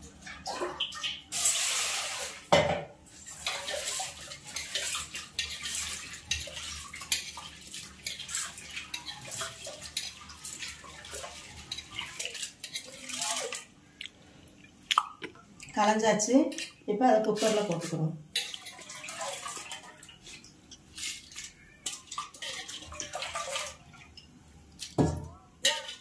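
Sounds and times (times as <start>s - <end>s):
water swishing in a steel pot: 0.0s - 13.9s, 15.6s - 24.3s, 25.6s - 26.0s.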